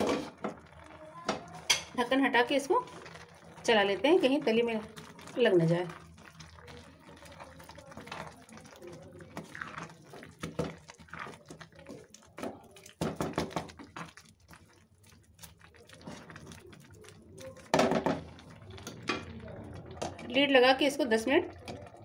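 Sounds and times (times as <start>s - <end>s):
spatula stirring wet food: 0.0s - 22.0s.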